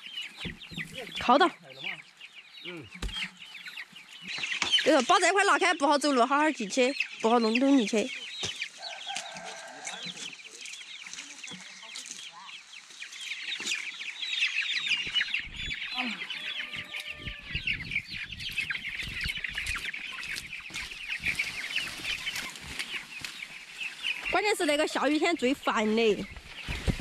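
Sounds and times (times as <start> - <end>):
baby chicks peeping: 0.0 - 27.0.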